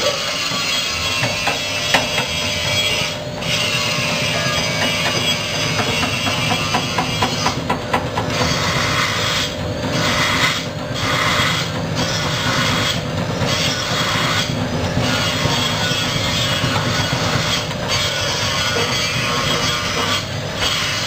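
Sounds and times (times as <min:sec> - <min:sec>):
slicing machine clattering: 0:00.1 - 0:21.0.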